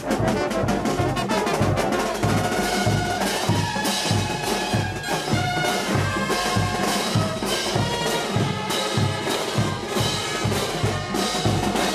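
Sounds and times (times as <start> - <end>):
brass band playing: 0.0 - 11.9.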